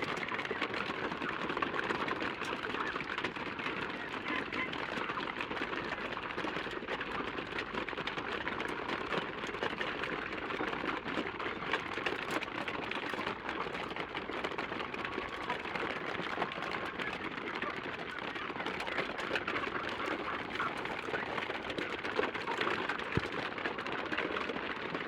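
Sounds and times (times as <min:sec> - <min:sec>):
chickens pecking at feeders: 0:00.0 - 0:25.0.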